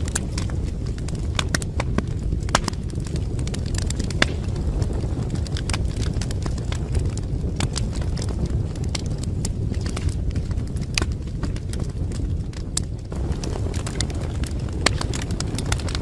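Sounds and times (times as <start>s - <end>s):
fire roaring: 0.0s - 16.0s
logs crackling and popping: 0.0s - 16.0s.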